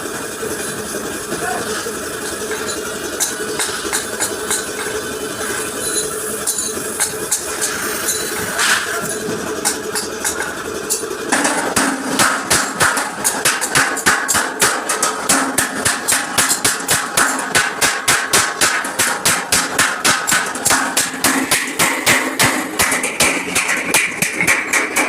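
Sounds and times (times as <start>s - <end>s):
hammer striking metal bumper: 2.5s - 5.0s, 5.8s - 25.0s.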